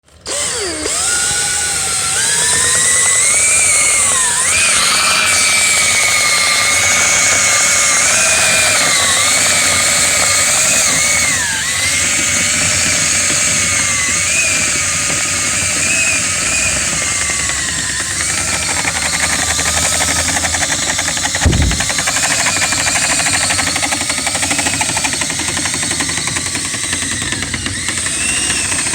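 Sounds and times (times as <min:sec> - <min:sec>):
power tool motor whine: 0:00.1 - 0:28.9.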